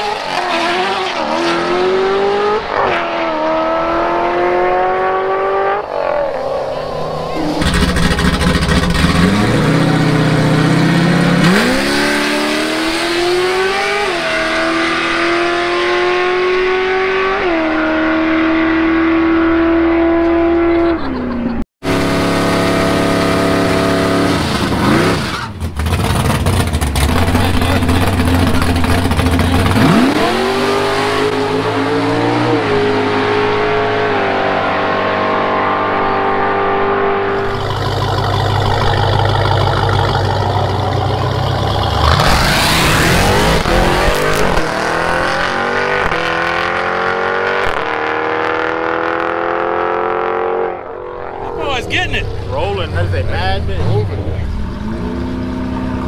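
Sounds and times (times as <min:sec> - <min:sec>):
car burnout at high revs: 0:00.0 - 0:20.8, 0:21.8 - 0:56.0
drag racing engines at full throttle: 0:00.0 - 0:56.0.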